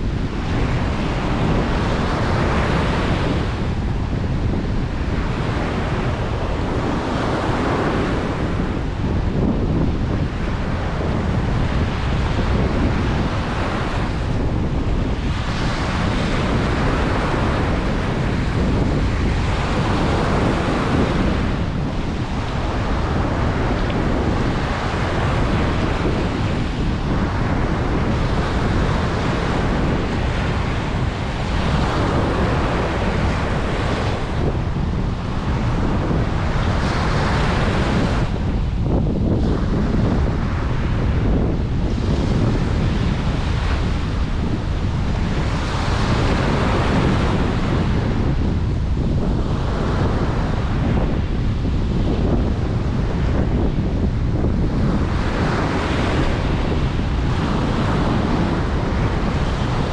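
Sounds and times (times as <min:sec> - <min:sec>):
ocean surf breaking on beach: 0:00.0 - 0:59.9
wind rumble on microphone: 0:00.0 - 0:59.9.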